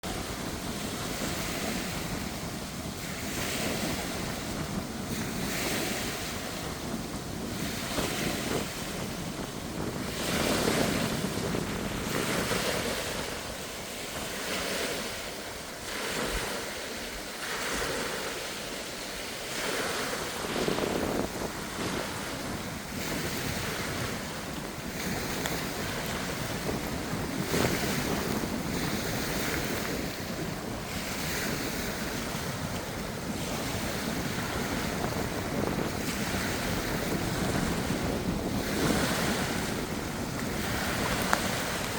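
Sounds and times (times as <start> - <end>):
gusty wind buffeting microphone: 0.0 - 41.9.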